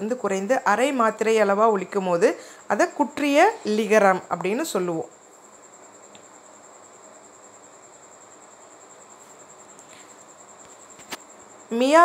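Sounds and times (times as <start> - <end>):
cricket trilling: 0.0 - 12.0
low room hiss: 0.0 - 12.0.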